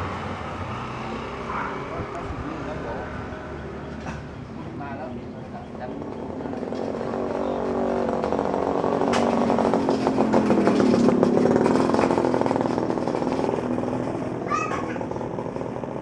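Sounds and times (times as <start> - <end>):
motorcycle engine passing by: 0.0 - 16.0.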